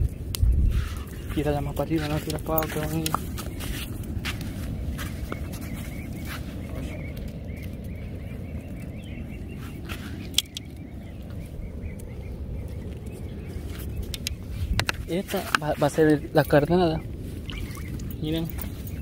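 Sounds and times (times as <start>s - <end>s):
faint chattering bird calls: 0.0s - 19.0s.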